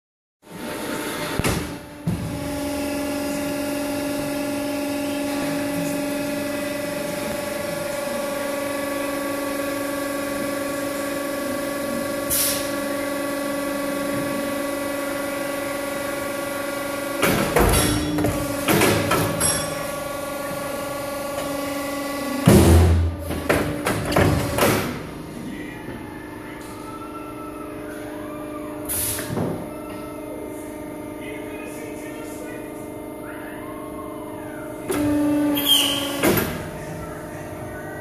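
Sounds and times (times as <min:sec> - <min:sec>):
hydraulic pump humming with whine: 0:00.5 - 0:38.0.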